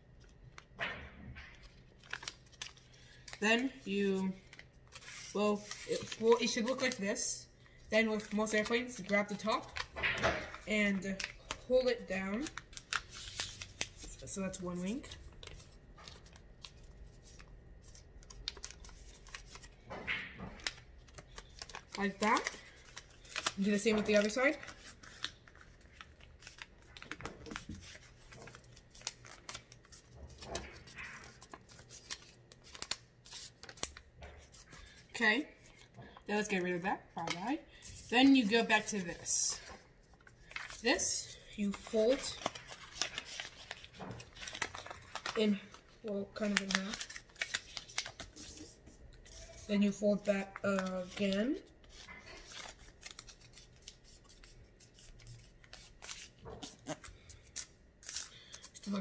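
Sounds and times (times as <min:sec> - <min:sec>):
paper crinkling as folded: 0:01.4 - 0:59.0.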